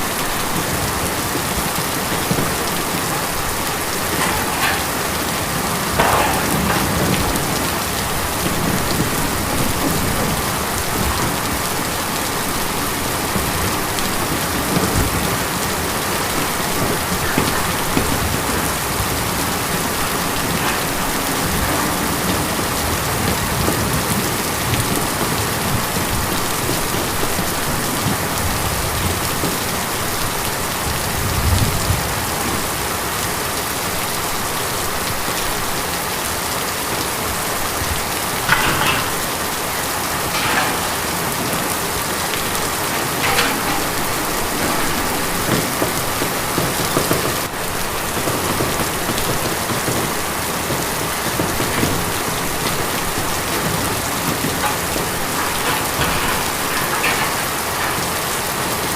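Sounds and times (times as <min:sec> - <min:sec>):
rain on a tin roof: 0:00.0 - 0:58.9.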